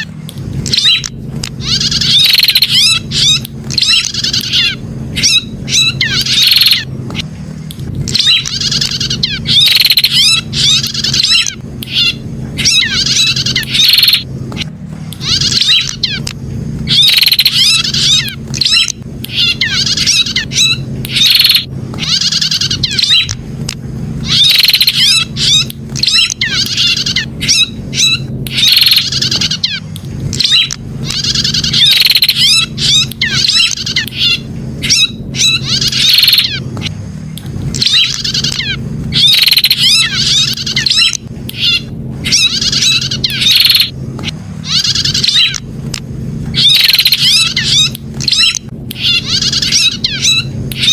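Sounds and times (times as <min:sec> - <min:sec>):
bird chattering calls: 0:00.0 - 0:07.3, 0:08.1 - 0:23.4, 0:24.2 - 0:36.9, 0:37.7 - 0:45.7, 0:46.5 - 0:50.9
steady low hum: 0:00.0 - 0:50.9.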